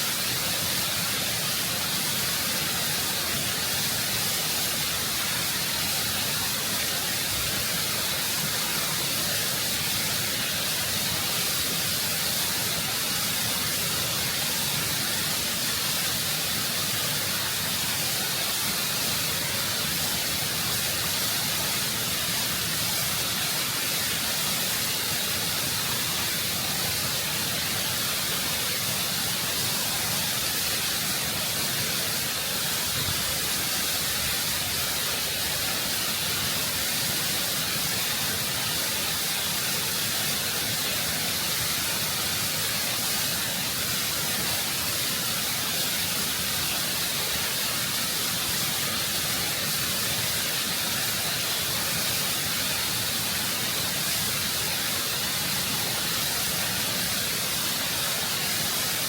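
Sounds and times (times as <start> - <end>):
waterfall rushing over rock: 0.0 - 59.0.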